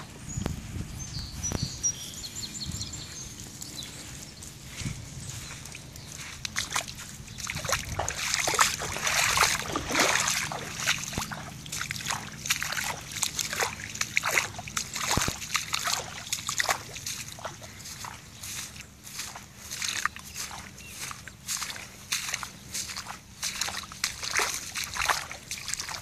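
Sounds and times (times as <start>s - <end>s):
footsteps splashing through wet grass: 0.0s - 26.0s.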